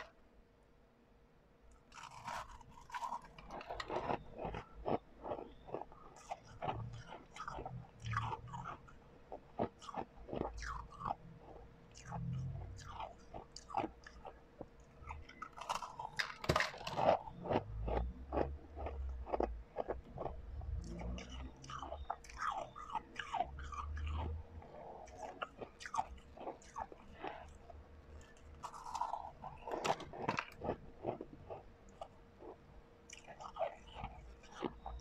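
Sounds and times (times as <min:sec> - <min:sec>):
crunching ice: 0:01.8 - 0:14.4, 0:15.0 - 0:35.0.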